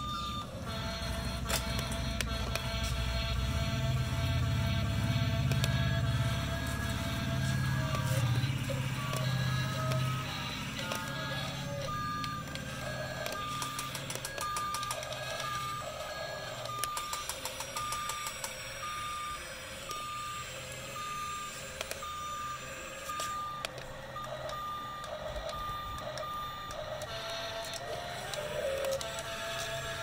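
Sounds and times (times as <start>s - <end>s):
electronic reversing alarm beeps: 0.0s - 30.0s
small electric motors whining: 0.0s - 30.0s.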